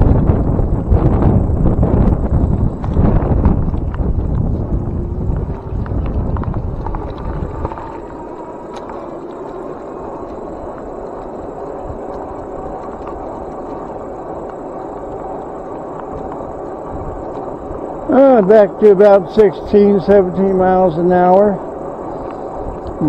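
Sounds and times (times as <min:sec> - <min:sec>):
faint even whine: 0:00.0 - 0:23.0
steady rolling noise: 0:00.0 - 0:23.0
wind buffeting microphone: 0:00.0 - 0:23.0.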